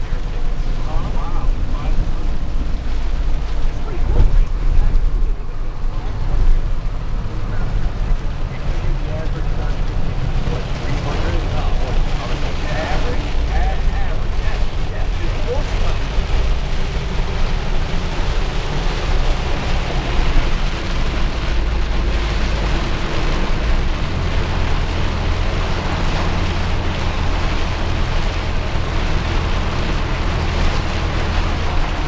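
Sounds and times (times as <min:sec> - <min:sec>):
heavy rain on a car: 0:00.0 - 0:32.0
tyres hissing on wet road: 0:00.0 - 0:32.0.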